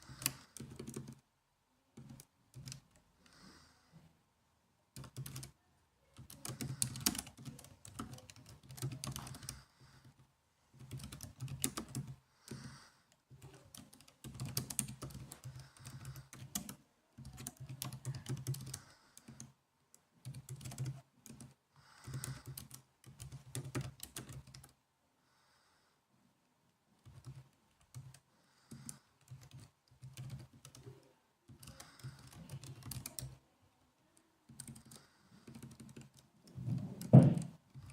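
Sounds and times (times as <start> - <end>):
laptop keyboard typing: 0.0 - 1.2, 2.0 - 3.4, 5.0 - 5.6, 6.2 - 10.2, 10.8 - 24.8, 27.0 - 33.4, 34.5 - 37.9.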